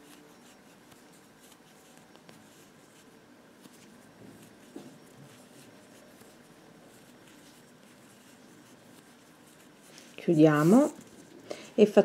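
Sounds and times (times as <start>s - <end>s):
yarn scratching and rustling: 0.0s - 12.0s.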